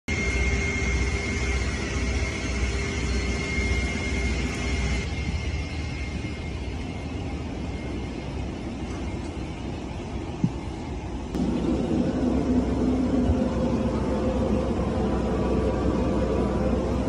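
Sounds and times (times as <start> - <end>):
thin high whine: 0.1 - 17.0
airliner cabin rumble: 0.2 - 17.0.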